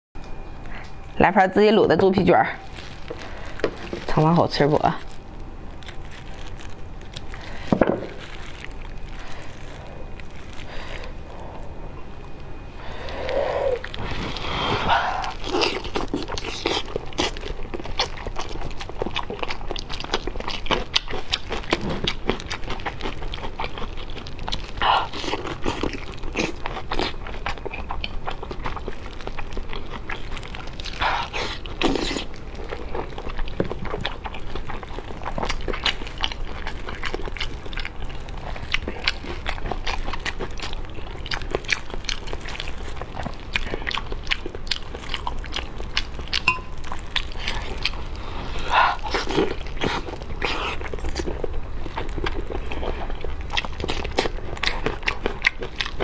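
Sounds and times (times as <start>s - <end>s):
close-miked biting and chewing: 2.6s - 56.0s.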